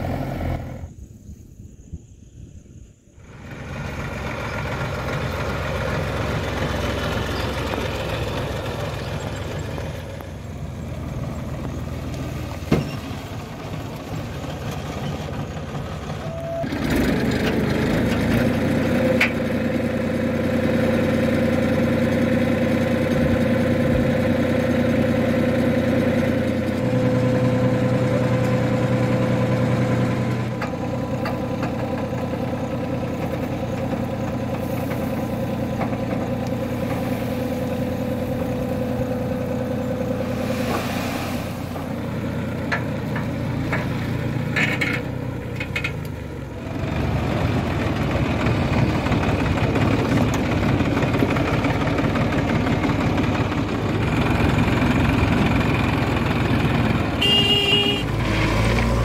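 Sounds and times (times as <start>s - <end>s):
tractor diesel engine: 0.0s - 59.0s.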